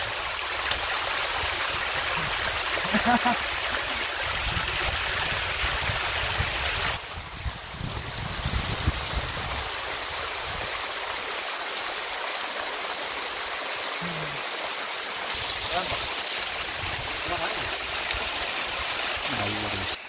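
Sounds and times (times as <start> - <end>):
stream water over rocks: 0.0 - 20.0.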